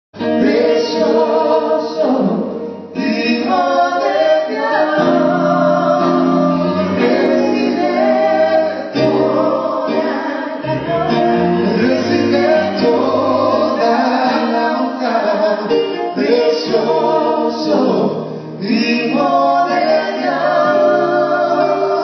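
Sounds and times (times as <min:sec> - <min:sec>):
voices singing together: 0:00.2 - 0:22.0.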